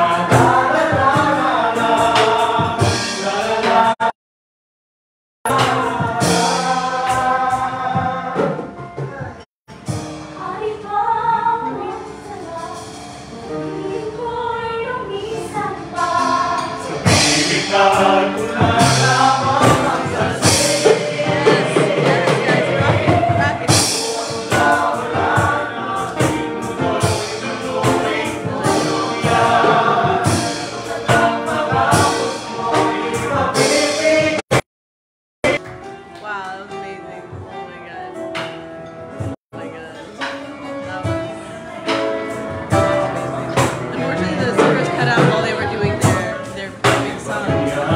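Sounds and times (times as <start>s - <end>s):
group of people singing: 0.0s - 4.1s, 5.5s - 8.9s, 10.4s - 34.6s, 39.6s - 47.9s.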